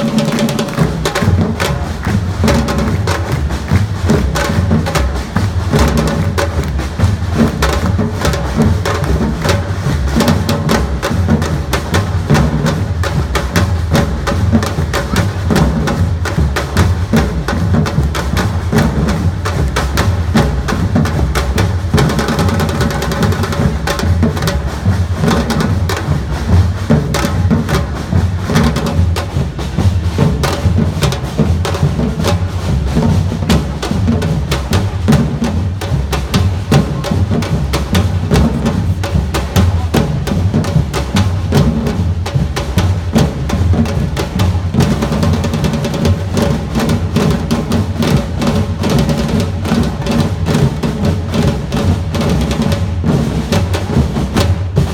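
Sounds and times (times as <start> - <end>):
deep bass drums pounding: 0.0 - 54.9
snare and high drum strokes: 0.0 - 54.9.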